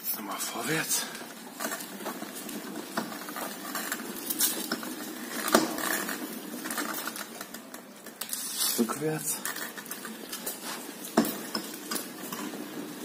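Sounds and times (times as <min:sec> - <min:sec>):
scooter clicks and scraping rattles: 0:00.6 - 0:13.0.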